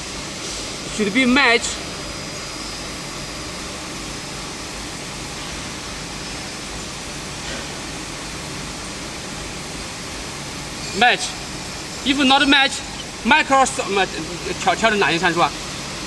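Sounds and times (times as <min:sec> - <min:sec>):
steady background hum and hiss: 0:00.0 - 0:16.0.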